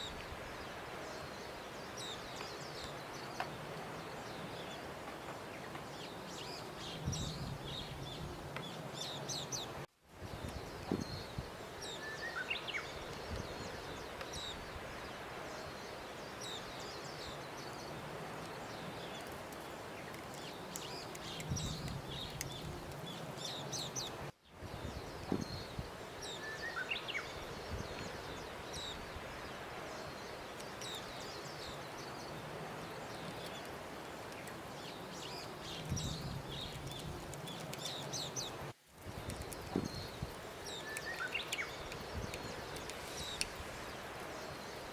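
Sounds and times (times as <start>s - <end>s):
small birds chirping: 0.0s - 44.9s
steady outdoor noise: 0.0s - 44.9s.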